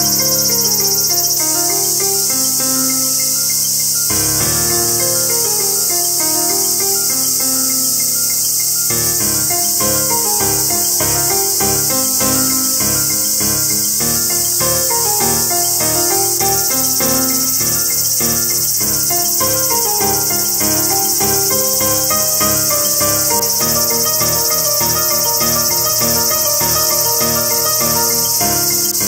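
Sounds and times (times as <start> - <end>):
insects shrilling: 0.0 - 29.0
soft melodic music: 0.0 - 29.0.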